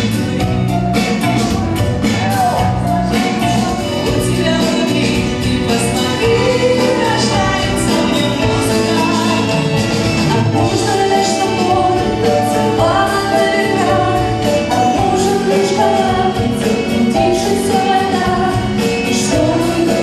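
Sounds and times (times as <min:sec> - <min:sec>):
drums: 0:00.0 - 0:20.0
live band music: 0:00.0 - 0:20.0
woman singing lead: 0:01.0 - 0:20.0.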